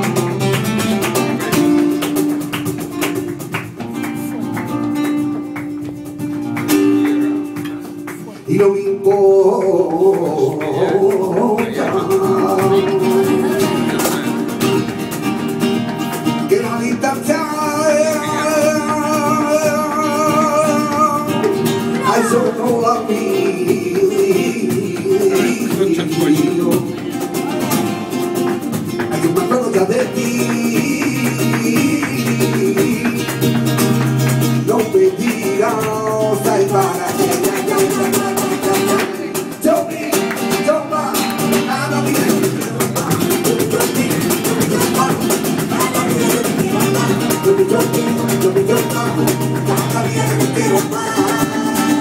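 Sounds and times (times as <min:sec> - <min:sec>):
acoustic guitar strummed fast: 0:00.0 - 0:52.0
person singing: 0:07.1 - 0:14.8, 0:16.4 - 0:28.1, 0:29.1 - 0:52.0.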